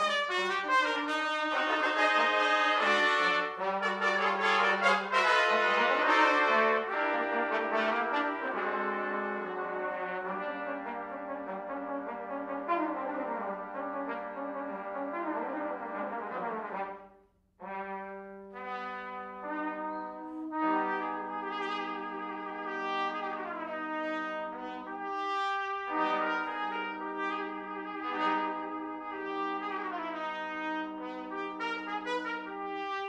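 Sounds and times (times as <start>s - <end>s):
trumpets and flugelhorns playing chords: 0.0s - 33.0s.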